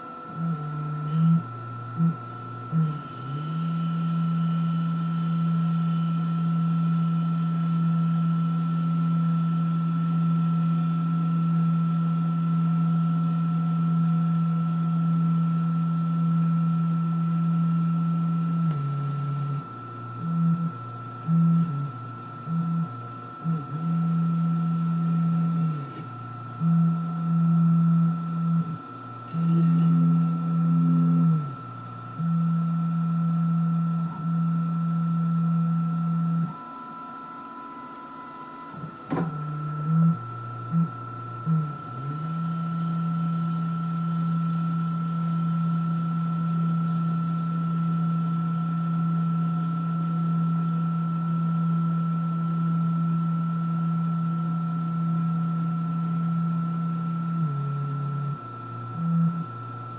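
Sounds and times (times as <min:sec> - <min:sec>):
high spindle whine: 0:00.0 - 0:59.9
low motor hum: 0:00.0 - 0:59.9.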